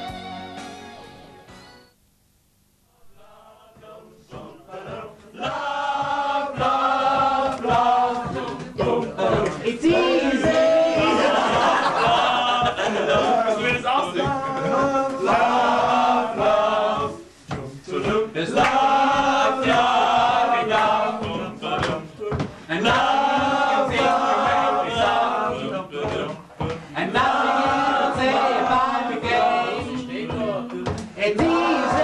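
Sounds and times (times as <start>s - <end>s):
men singing a chant: 3.1s - 32.0s.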